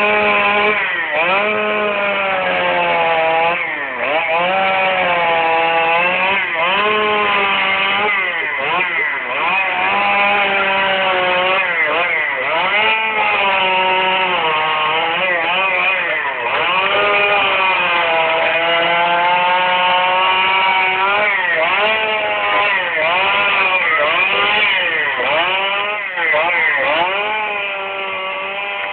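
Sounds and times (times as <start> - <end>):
chainsaw carving wood: 0.0 - 28.9.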